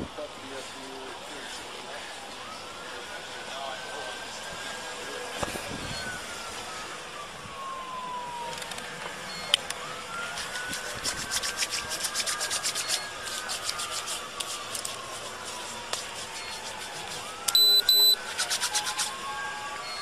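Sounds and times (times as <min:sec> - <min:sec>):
distant siren wailing: 0:01.2 - 0:20.0.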